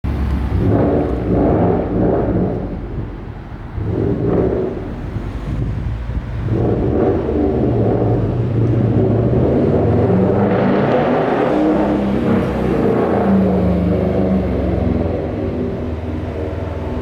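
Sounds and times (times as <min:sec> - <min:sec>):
car engine exhaust: 0:00.0 - 0:17.0.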